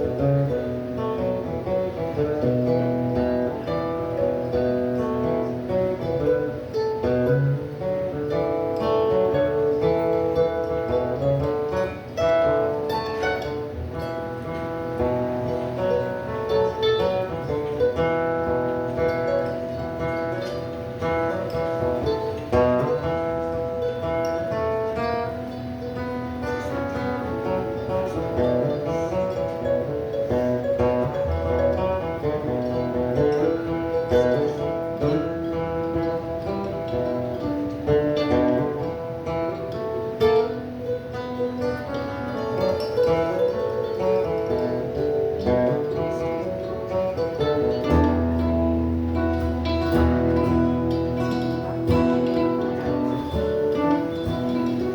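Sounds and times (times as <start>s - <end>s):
acoustic guitar plucked notes: 0.0s - 54.9s.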